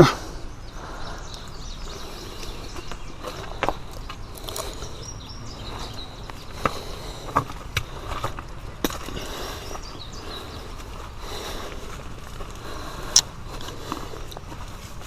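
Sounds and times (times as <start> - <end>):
footsteps on uneven ground: 0.8 - 15.0.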